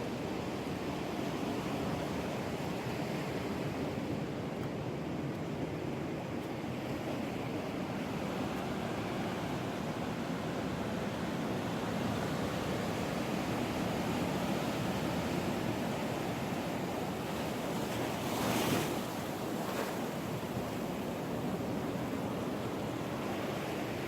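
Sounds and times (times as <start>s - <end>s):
ocean surf washing onto beach: 1.8s - 24.0s.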